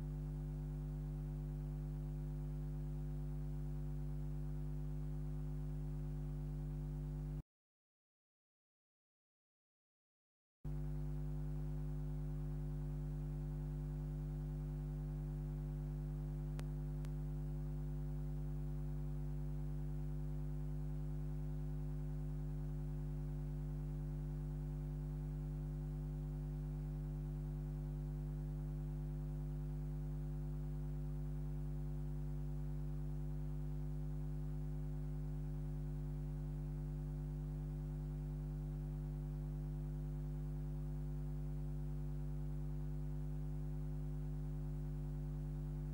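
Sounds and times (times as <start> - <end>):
electrical mains hum: 0.0 - 7.4, 10.7 - 45.9.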